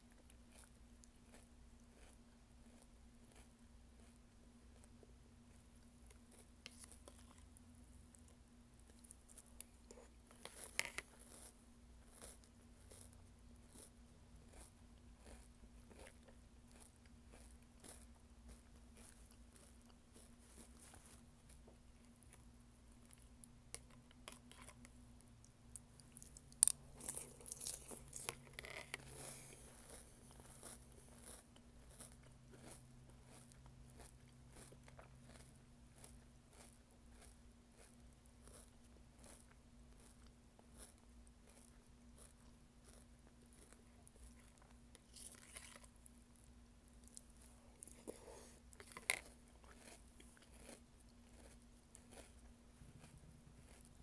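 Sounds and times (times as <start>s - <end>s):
chewing and crunching cereal: 0.0s - 54.0s
faint steady hum: 0.0s - 54.0s.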